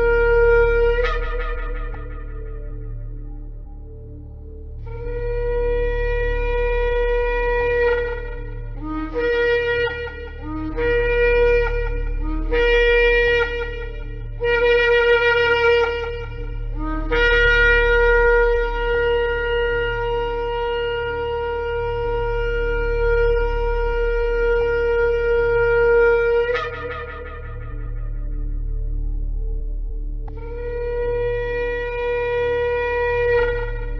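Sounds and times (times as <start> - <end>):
shofar blasts: 0.0 - 4.2, 4.9 - 29.6, 30.3 - 33.9.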